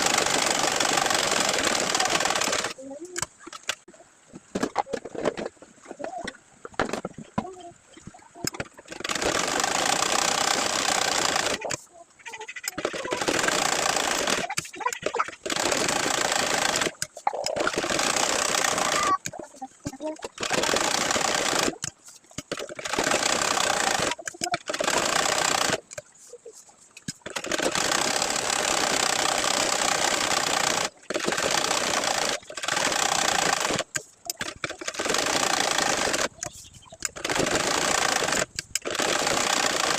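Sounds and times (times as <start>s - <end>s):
sewing machine stitching: 0.0s - 3.8s, 8.4s - 11.8s, 12.7s - 26.0s, 27.1s - 39.9s.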